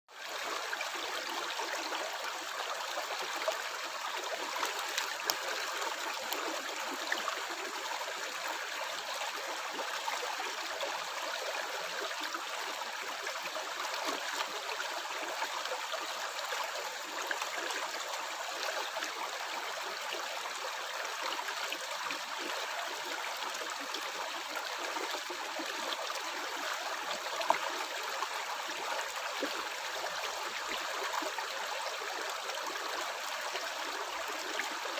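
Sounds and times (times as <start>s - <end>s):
stream water gurgling: 0.1s - 34.9s.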